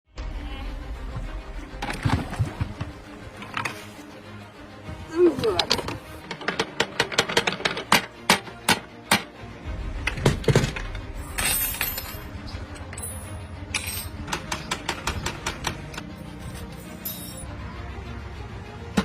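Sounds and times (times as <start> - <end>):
background music: 0.1 - 19.0.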